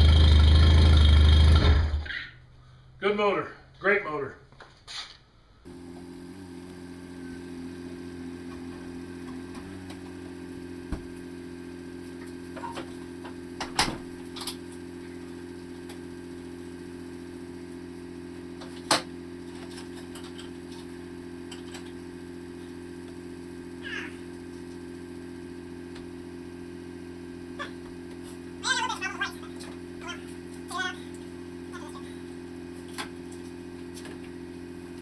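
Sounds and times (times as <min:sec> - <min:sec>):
outboard motor idling: 0:00.0 - 0:02.1, 0:05.7 - 0:35.0.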